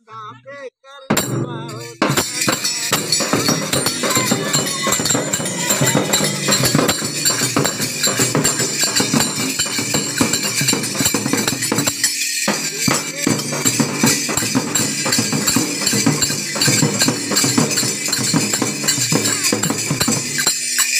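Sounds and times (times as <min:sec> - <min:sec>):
men singing: 0:00.0 - 0:11.1, 0:12.5 - 0:20.0
barrel drum playing folk rhythm: 0:01.1 - 0:20.9
hand cymbals jingling: 0:01.1 - 0:20.9.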